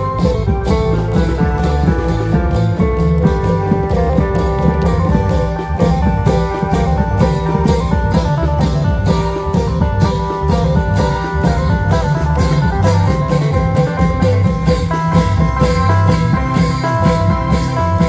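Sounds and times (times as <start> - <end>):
long drums and percussion: 0.0 - 18.0.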